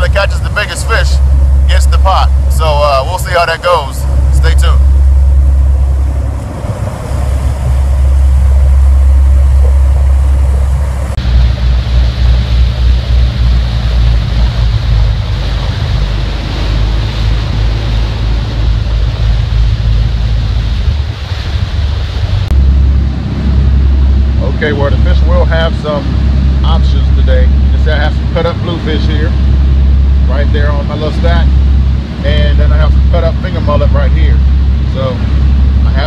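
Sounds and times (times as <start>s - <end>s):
boat engine running: 0.0s - 36.0s
rush of churning wake: 0.0s - 36.0s
wind buffeting microphone: 0.0s - 36.0s.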